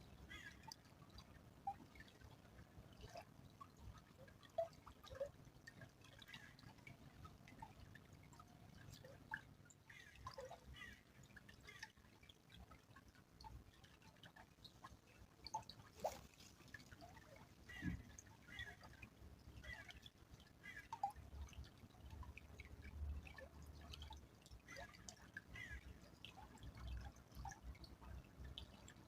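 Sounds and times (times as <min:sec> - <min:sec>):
stream trickling: 0:00.0 - 0:29.0
water dripping: 0:00.0 - 0:29.0.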